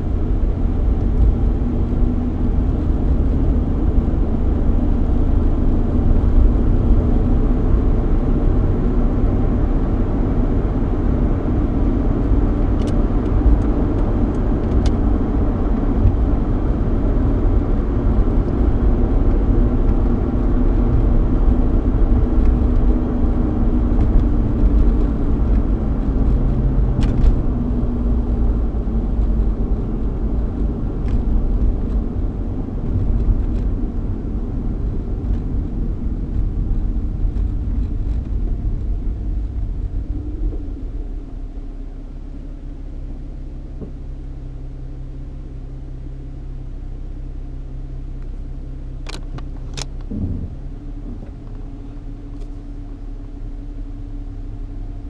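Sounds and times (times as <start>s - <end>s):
car engine hum: 0.0s - 55.0s
tyre and road rumble: 0.0s - 55.0s.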